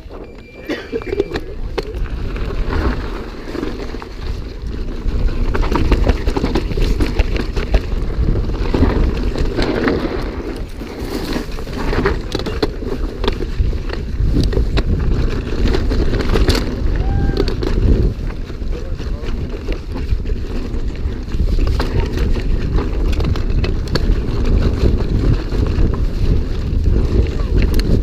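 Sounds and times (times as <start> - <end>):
bike knocking and rattling: 0.0 - 28.0
wind buffeting microphone: 0.0 - 28.0.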